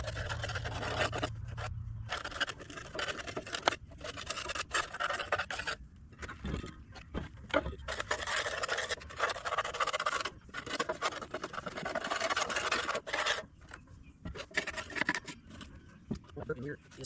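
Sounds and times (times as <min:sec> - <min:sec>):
scrubbing and scraping dirt: 0:00.0 - 0:17.0.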